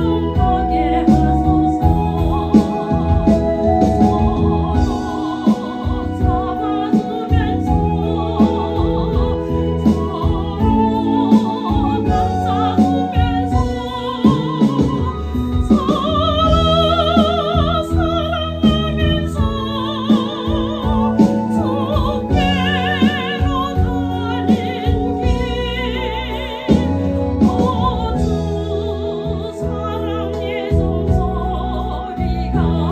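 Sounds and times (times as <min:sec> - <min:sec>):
instrumental accompaniment: 0:00.0 - 0:32.9
woman singing operatically: 0:00.0 - 0:32.9.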